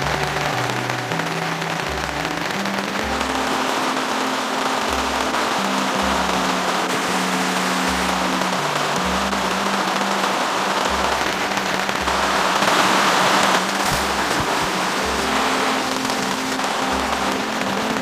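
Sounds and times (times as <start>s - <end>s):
rain falling: 0.0s - 18.0s
soft background music: 0.0s - 18.0s.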